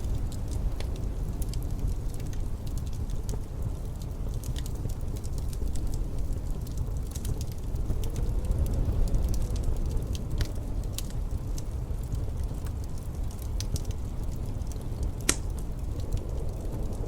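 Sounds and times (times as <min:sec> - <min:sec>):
low rumble of wind: 0:00.0 - 0:17.0
wood fire crackling and popping: 0:00.0 - 0:17.0.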